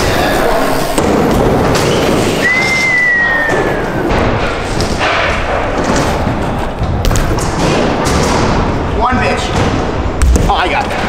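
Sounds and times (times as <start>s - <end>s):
bike tyres rolling on wooden ramps: 0.0s - 11.0s.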